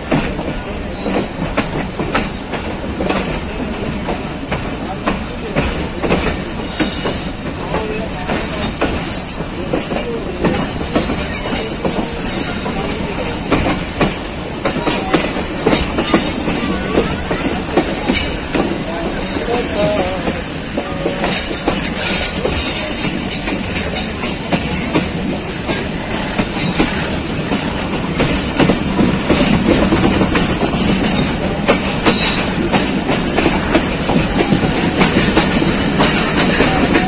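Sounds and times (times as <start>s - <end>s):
train wheels clattering over rails: 0.0s - 37.0s.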